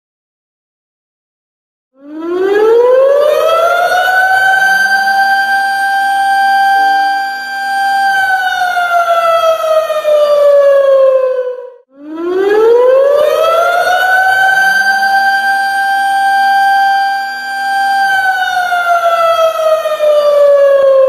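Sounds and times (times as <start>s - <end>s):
air raid siren wailing: 2.0s - 21.0s.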